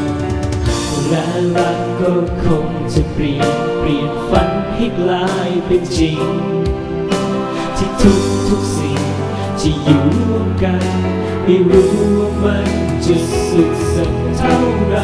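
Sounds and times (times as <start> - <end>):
song playing: 0.0 - 15.0.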